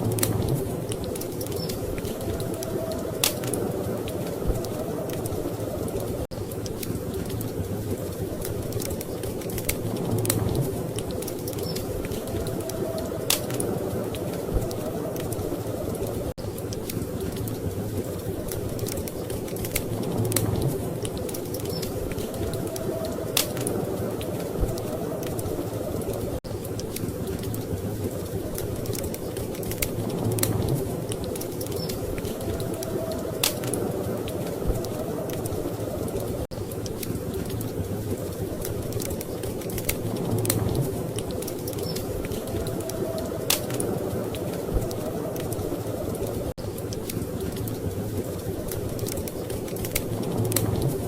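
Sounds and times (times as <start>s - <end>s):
storm wind rumble: 0.0s - 51.0s
wood fire crackling: 0.0s - 51.0s.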